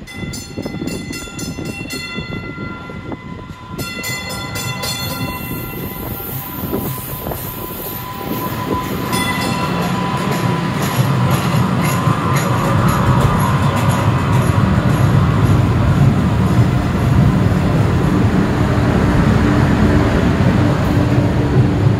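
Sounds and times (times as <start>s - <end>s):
light-rail train motors and wheels rumbling: 0.0s - 21.9s
train warning signal pulsing tones: 0.0s - 21.9s.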